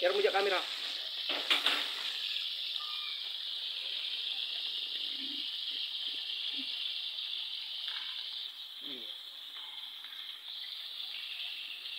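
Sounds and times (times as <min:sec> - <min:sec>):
fish sizzling in hot oil: 0:00.0 - 0:11.9.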